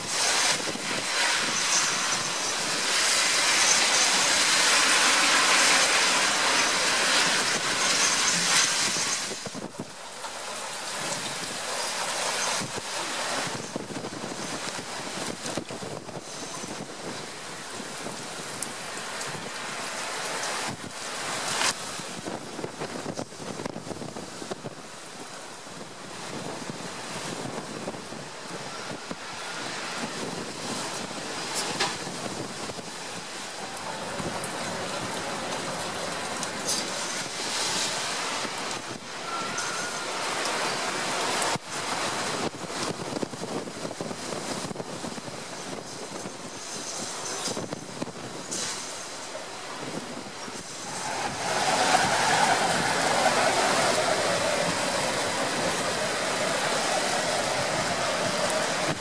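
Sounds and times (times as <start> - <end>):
driving rain: 0.0 - 59.0
storm wind gusts: 0.0 - 59.0.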